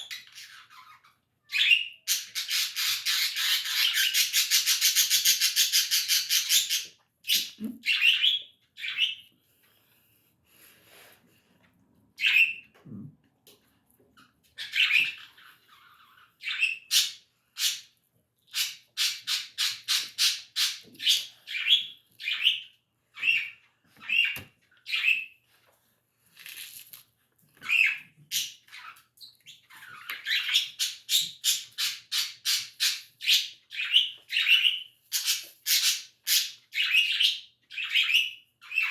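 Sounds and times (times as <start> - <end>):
small birds chirping: 0.0 - 10.2, 14.2 - 25.5, 27.5 - 38.9.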